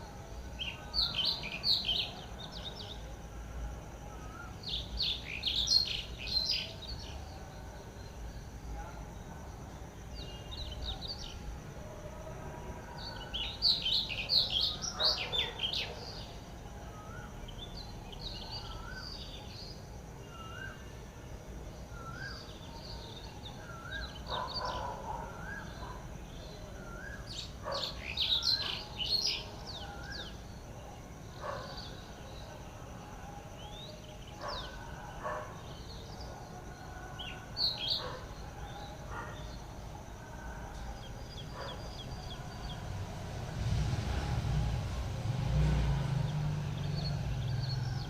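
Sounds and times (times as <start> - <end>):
wild birds chirping: 0.0 - 48.0.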